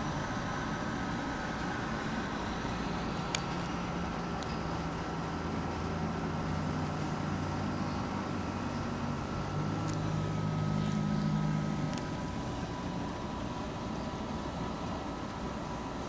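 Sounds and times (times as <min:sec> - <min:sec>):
faint high whine: 0:00.0 - 0:16.0
low motor hum: 0:00.0 - 0:16.0.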